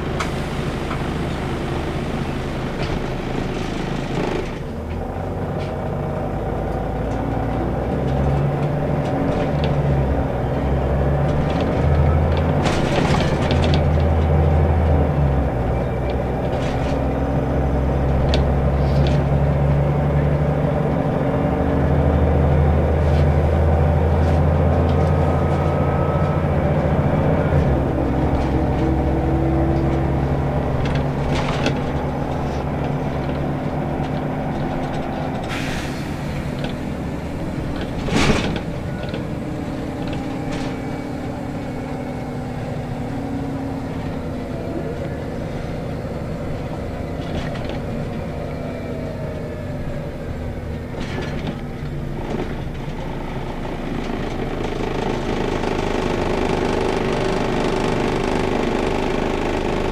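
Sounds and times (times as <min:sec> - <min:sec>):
bus diesel engine pulling: 0:00.0 - 0:59.9
road noise: 0:00.0 - 0:59.9.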